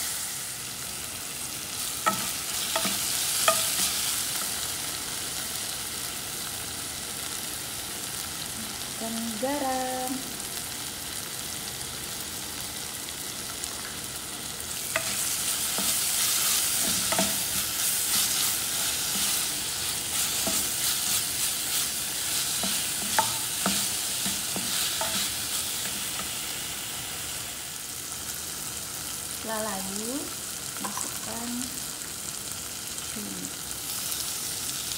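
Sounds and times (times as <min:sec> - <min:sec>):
onions sizzling in hot oil: 0:00.0 - 0:34.9.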